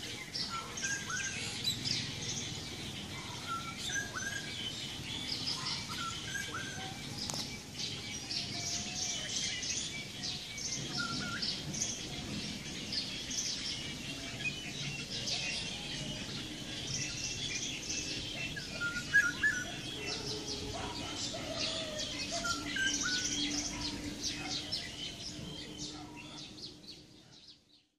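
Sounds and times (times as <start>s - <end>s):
whistled bird notes: 0.0s - 27.7s
songbirds chirping: 0.0s - 27.9s.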